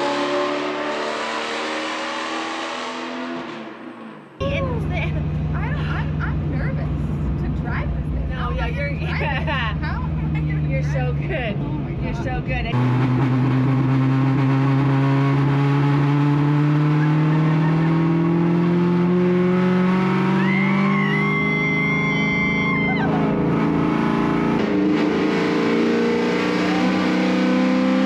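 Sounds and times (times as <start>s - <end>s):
race car engine pulling: 0.0s - 28.0s.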